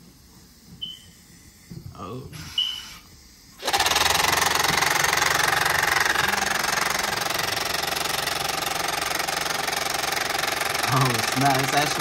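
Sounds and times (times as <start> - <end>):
air hissing from valves: 2.3 - 12.0.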